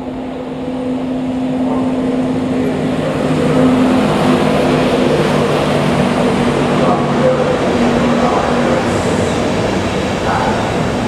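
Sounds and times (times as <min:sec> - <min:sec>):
electric locomotive hum: 0:00.0 - 0:11.0
train rumble: 0:00.0 - 0:11.0.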